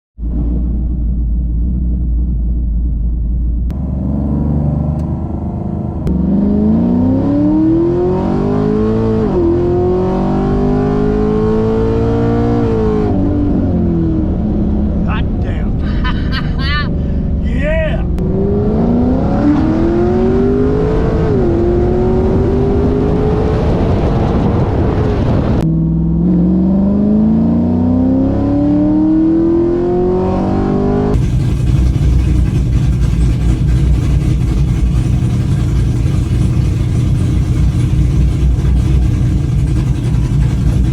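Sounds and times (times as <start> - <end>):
car engine accelerating: 0.2 - 40.9.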